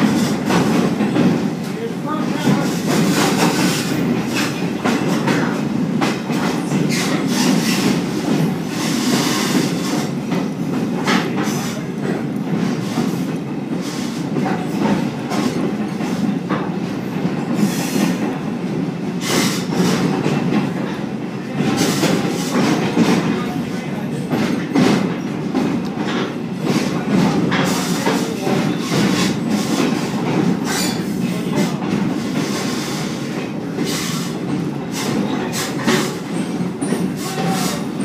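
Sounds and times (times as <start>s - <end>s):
train wheels rumbling on rails: 0.0s - 38.0s
wheels clicking and clanking on track: 0.0s - 38.0s.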